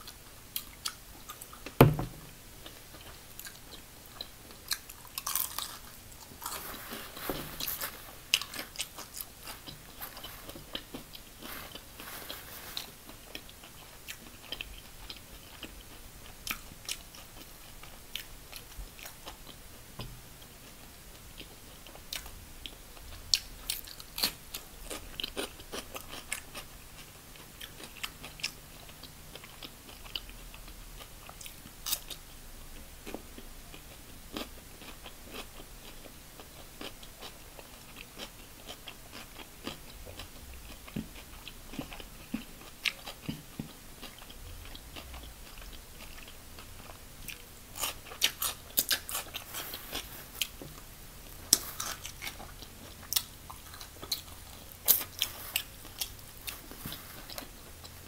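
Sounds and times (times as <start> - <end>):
crisp chewing crunches: 2.6 - 19.6, 23.0 - 32.3, 33.0 - 58.0.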